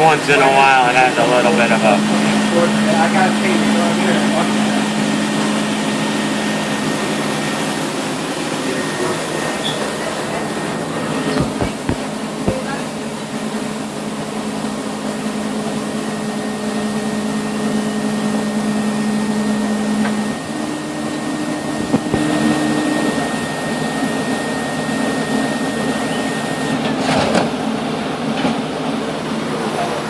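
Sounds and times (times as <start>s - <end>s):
high whine: 0.0s - 26.7s
cnc machine motor whine: 0.0s - 26.9s.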